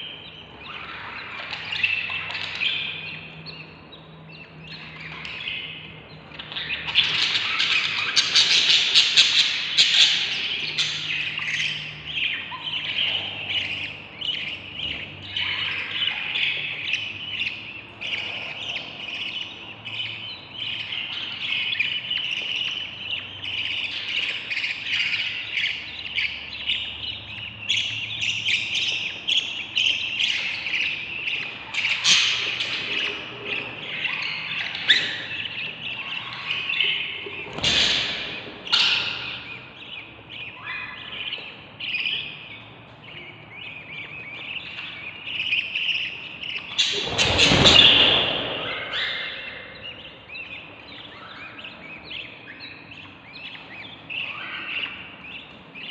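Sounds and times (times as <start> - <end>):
budgie chicks chirping: 0.0 - 55.9.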